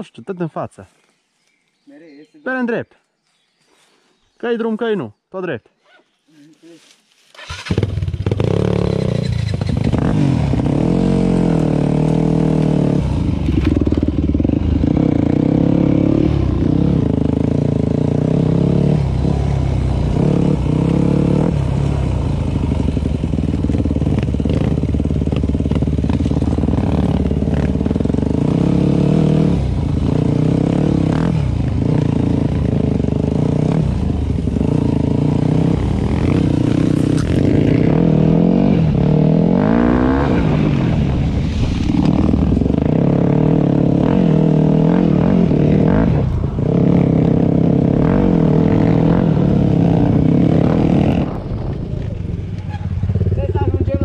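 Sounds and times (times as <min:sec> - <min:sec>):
dirt bike engine revving: 0:07.4 - 0:54.0.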